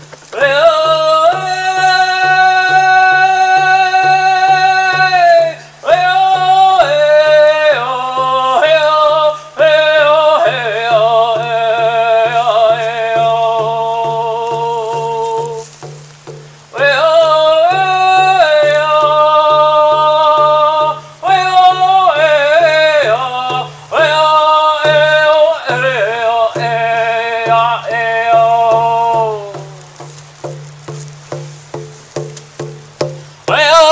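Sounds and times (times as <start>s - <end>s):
steady drum beat: 0.0s - 33.9s
man chanting in high voice: 0.3s - 16.0s, 16.7s - 33.9s.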